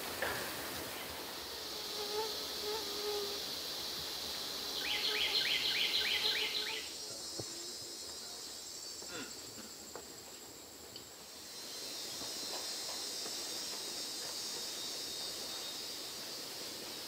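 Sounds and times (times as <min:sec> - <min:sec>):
insects droning high-pitched: 0:00.0 - 0:17.0.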